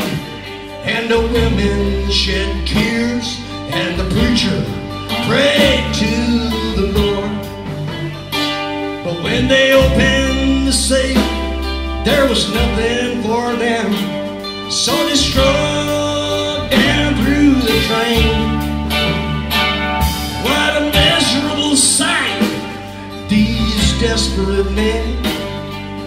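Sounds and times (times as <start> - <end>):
bass notes: 0.0 - 26.0
drums with cymbals: 0.0 - 26.0
electric guitar lead: 0.0 - 26.0.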